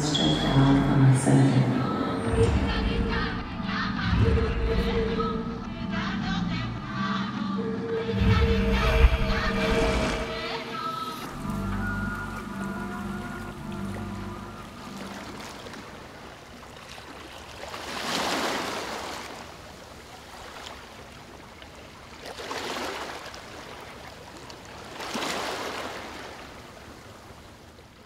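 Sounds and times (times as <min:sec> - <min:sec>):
ocean waves washing: 0:00.0 - 0:28.0.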